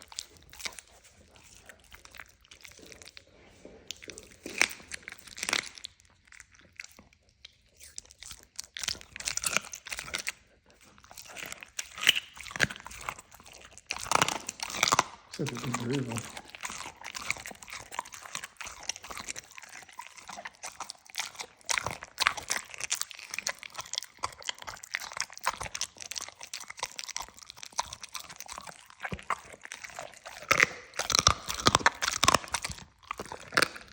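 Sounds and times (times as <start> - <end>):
dog chewing dry snack: 0.0 - 33.9.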